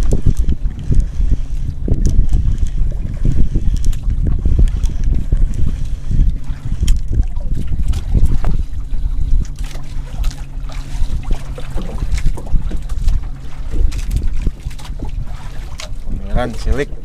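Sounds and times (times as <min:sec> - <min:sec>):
steady low hum: 0:00.0 - 0:17.0
water sloshing against boat: 0:00.0 - 0:17.0
wind buffeting microphone: 0:00.0 - 0:17.0.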